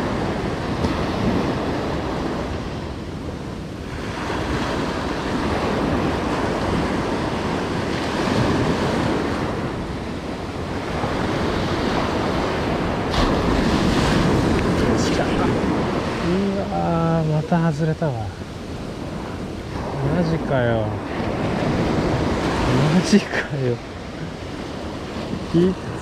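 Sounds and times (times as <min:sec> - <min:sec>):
surf breaking on beach: 0:03.8 - 0:26.0.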